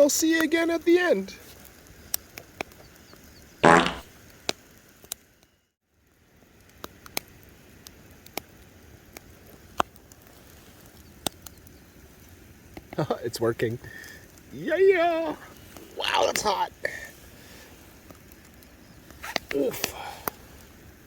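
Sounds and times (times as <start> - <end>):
campfire crackling: 0.0 - 21.0
fire popping: 0.0 - 21.0.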